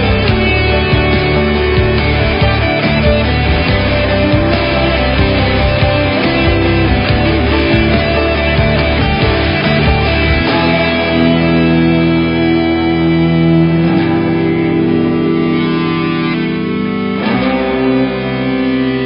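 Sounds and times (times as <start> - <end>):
guitar instrumental music: 0.0 - 19.0.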